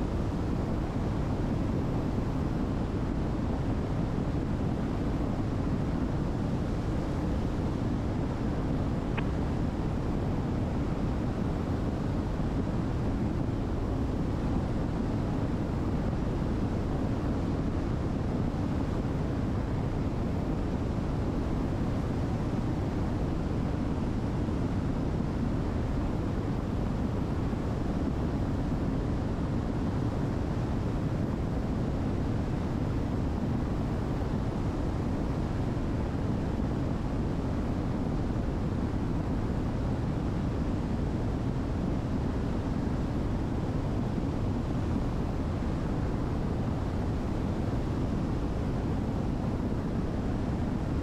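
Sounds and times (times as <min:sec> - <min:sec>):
aircraft engines droning in cabin: 0:00.0 - 0:51.0.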